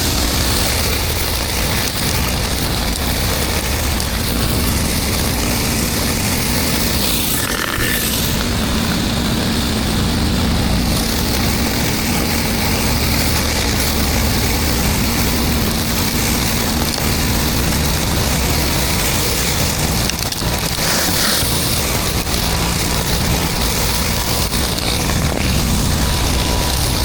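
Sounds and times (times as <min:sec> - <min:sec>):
high-pressure water spray hiss: 0:00.0 - 0:27.0
pressure washer engine drone: 0:00.0 - 0:27.0.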